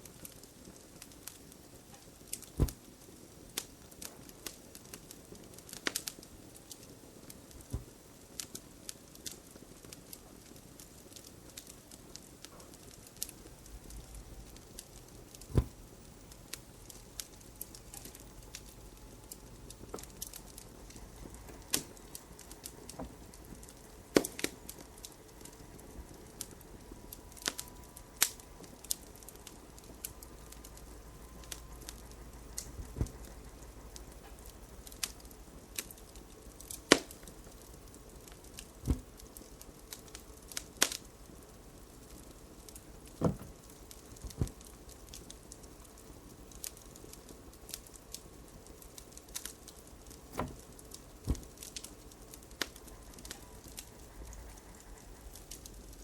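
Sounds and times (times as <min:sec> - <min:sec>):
low steady hiss: 0:00.0 - 0:56.0
wood fire crackling: 0:00.0 - 0:56.0.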